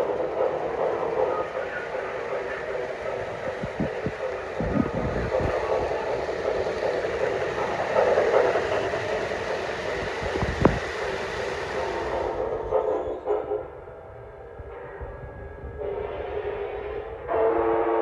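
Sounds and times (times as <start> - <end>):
model train rumbling on track: 0.0 - 18.0.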